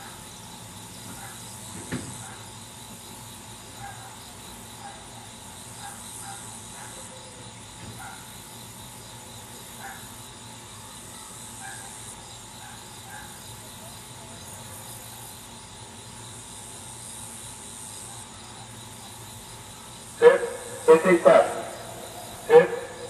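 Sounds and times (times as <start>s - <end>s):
insects hissing: 0.0s - 23.0s.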